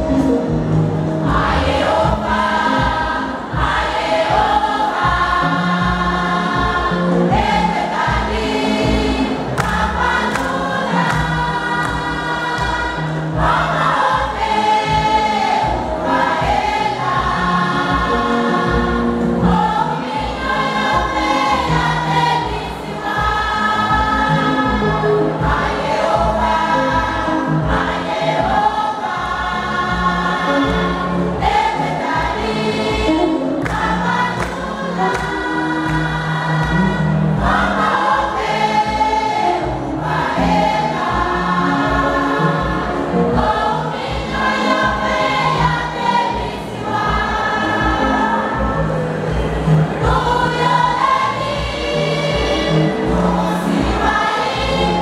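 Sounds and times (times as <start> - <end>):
bass and drums beat: 0.0 - 55.0
choir singing gospel: 0.0 - 55.0.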